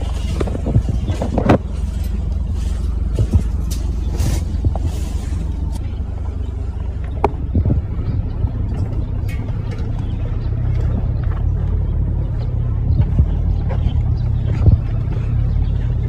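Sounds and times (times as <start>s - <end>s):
engine and tyre rumble: 0.0s - 16.0s
suspension knocks: 0.0s - 16.0s.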